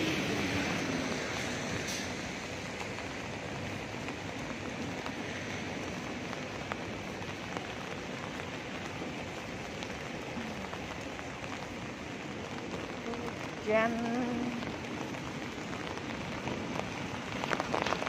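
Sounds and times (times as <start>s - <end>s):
rain hissing on pavement: 0.0s - 18.0s.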